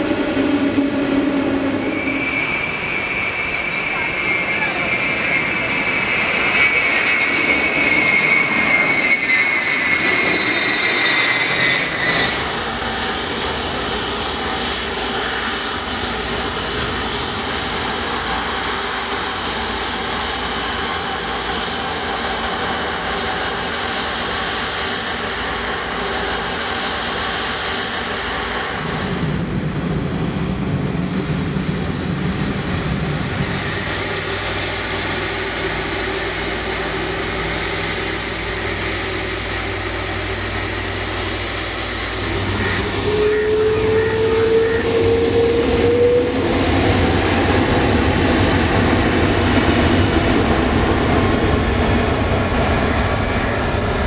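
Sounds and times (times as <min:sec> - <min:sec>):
jet engines humming while taxiing: 0:00.0 - 0:54.0
jet engines whining on approach: 0:00.0 - 0:54.0.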